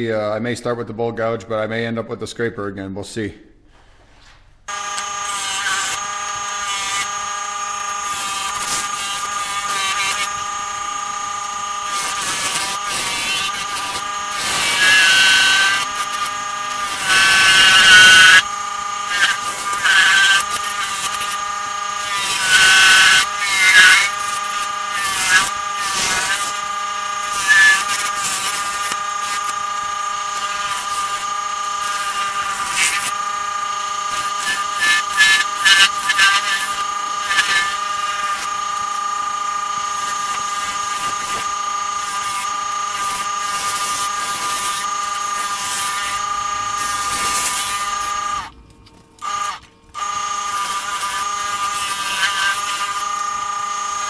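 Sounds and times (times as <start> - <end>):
turning tool scraping wood: 3.8 - 54.0
wood lathe whining: 4.7 - 54.0.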